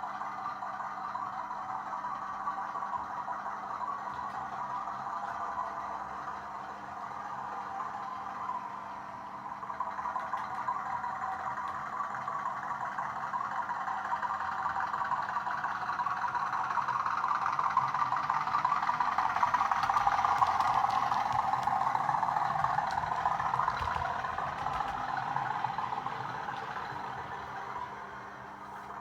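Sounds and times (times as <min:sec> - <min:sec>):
model train diesel engine sound: 0:00.0 - 0:29.0.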